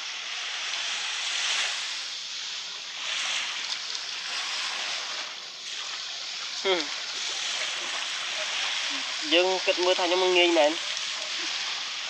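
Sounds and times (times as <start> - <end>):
sea waves washing: 0.0 - 12.0.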